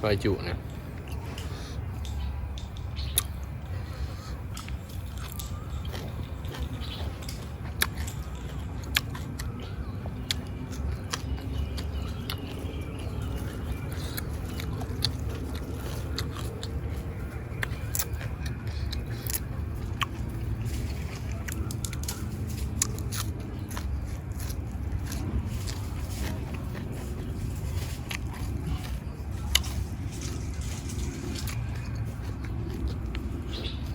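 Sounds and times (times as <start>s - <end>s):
wet chewing: 0.6s - 33.9s.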